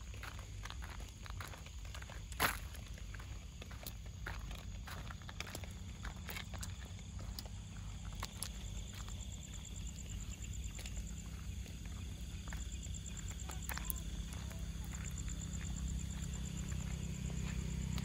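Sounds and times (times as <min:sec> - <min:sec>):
footsteps on pavement: 0:00.0 - 0:18.0
insects chirping: 0:00.0 - 0:18.0.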